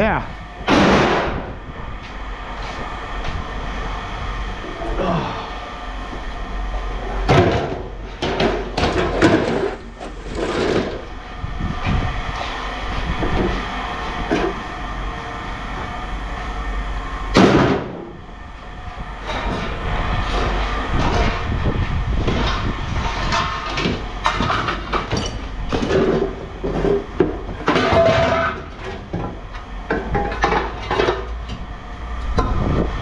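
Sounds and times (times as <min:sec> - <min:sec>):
machinery drone: 0:00.0 - 0:33.0.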